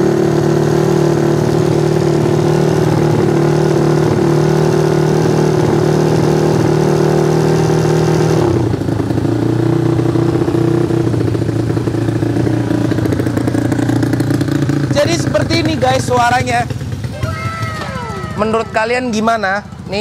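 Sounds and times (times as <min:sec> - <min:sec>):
scooter engine running: 0:00.0 - 0:20.0.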